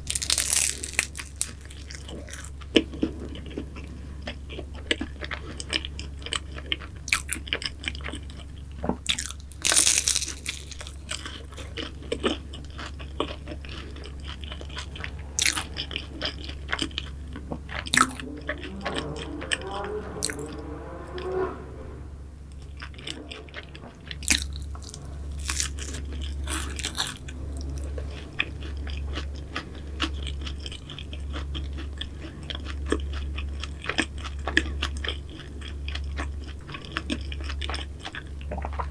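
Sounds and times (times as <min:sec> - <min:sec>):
person chewing crunchy pastry: 0:00.0 - 0:21.4, 0:22.5 - 0:38.9.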